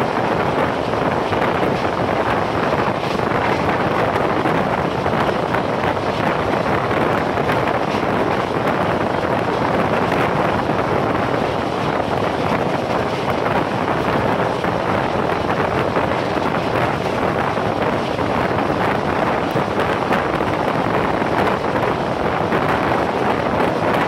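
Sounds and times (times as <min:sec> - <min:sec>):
train rumbling on rails: 0:00.0 - 0:24.0
wind rushing over microphone: 0:00.0 - 0:24.0.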